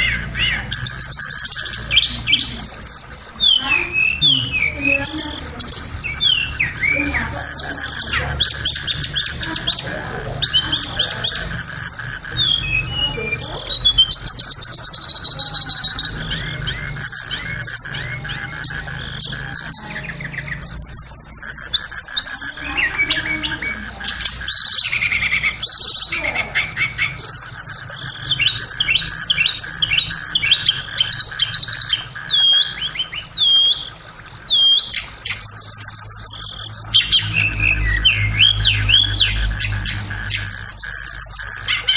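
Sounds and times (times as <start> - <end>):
bird song whistles and trills: 0.0 - 41.9.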